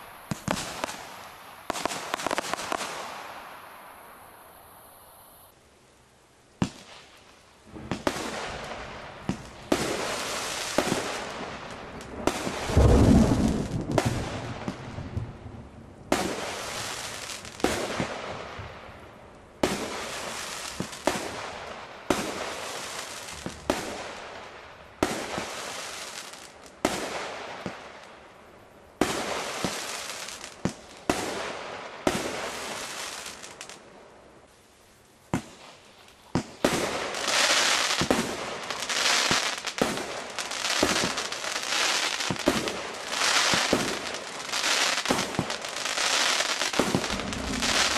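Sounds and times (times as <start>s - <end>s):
fireworks popping and bursting: 0.0s - 3.6s, 6.6s - 15.5s, 16.1s - 18.9s, 19.6s - 28.0s, 29.0s - 33.8s, 35.3s - 47.9s.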